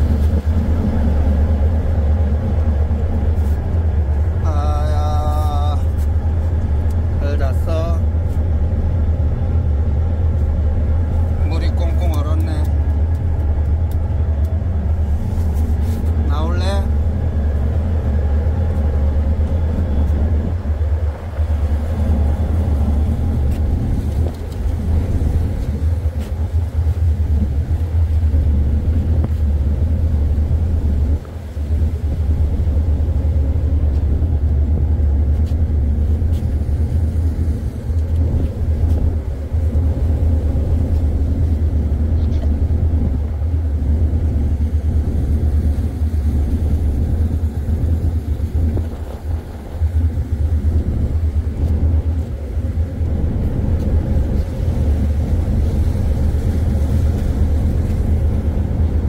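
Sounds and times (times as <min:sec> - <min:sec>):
ship engine low drone: 0:00.0 - 0:59.0.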